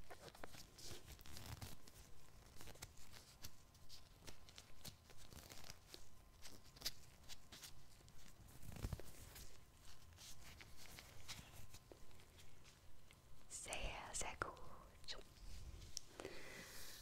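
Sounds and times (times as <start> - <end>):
latex gloves crinkling: 0.0 - 17.0.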